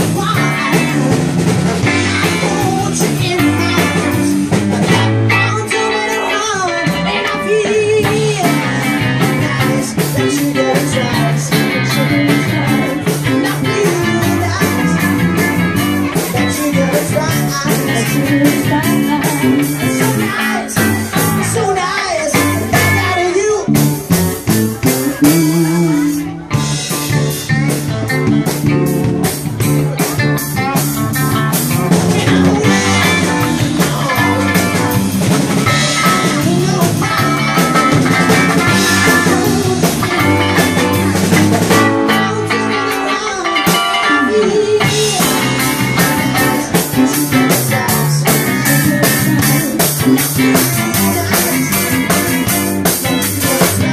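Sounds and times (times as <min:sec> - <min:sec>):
man singing: 0:00.0 - 0:27.3, 0:30.0 - 0:53.9
bass guitar: 0:00.0 - 0:53.9
drum kit beat: 0:00.0 - 0:53.9
electric guitar: 0:00.0 - 0:53.9.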